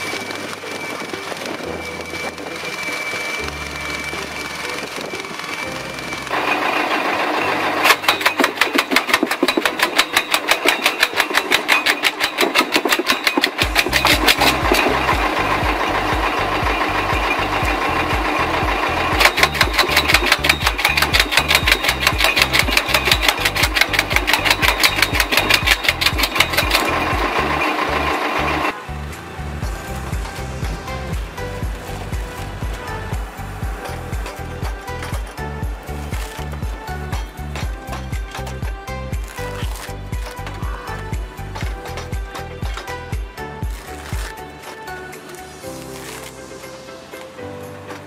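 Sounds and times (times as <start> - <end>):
wood-processing machine clattering: 0.0 - 48.0.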